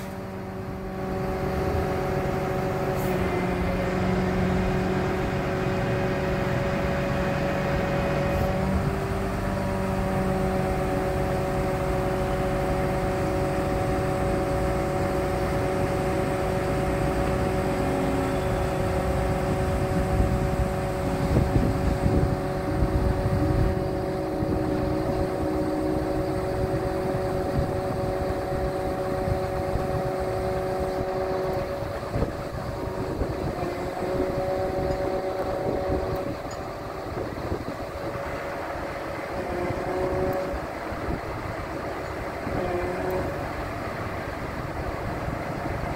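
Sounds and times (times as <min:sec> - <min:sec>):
diesel truck engine running: 0:00.0 - 0:45.9
hydraulic whine: 0:00.0 - 0:45.9.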